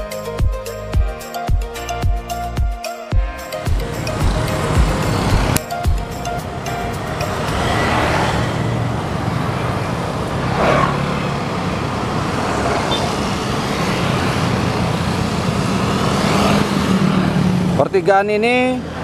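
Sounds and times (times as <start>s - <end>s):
scooters and cars passing: 3.6s - 19.0s.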